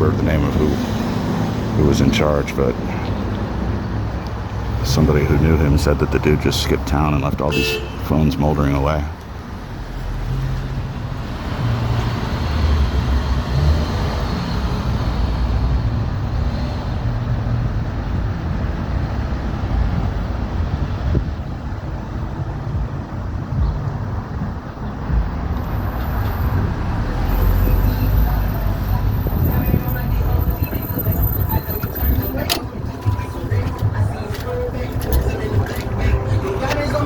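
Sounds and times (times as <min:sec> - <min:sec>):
traffic driving past: 0:00.0 - 0:37.0.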